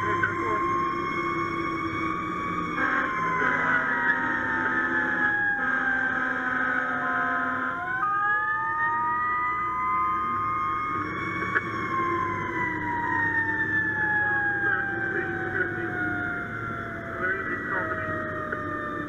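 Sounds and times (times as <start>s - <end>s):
fire truck siren wailing: 0.0s - 19.0s.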